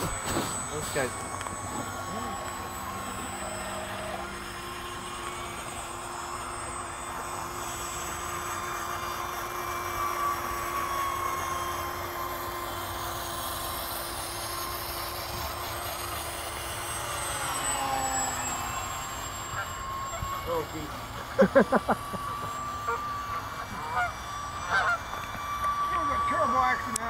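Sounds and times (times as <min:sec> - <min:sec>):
model airplane motor droning: 0:00.0 - 0:27.0.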